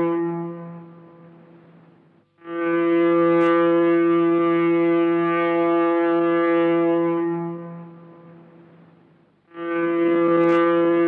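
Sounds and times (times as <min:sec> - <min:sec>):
foghorn blast: 0:00.0 - 0:01.4, 0:02.4 - 0:11.0.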